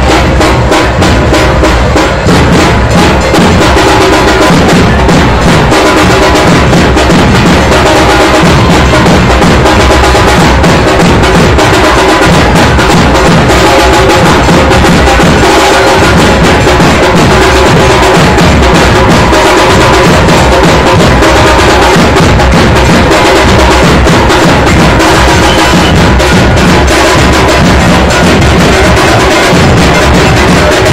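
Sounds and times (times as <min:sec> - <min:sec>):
drums beating loudly: 0:00.0 - 0:30.9.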